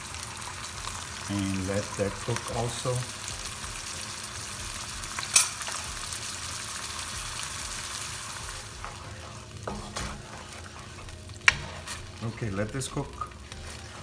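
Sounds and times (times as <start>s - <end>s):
sauce sizzling in hot oil: 0.0s - 14.0s.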